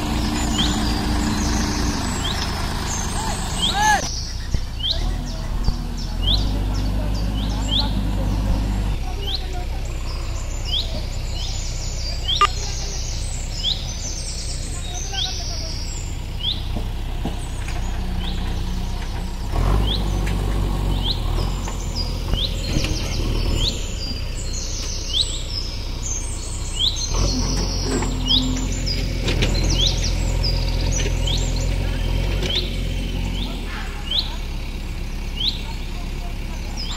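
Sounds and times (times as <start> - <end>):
diesel engine humming: 0.0 - 36.9
small birds chirping: 0.0 - 36.9.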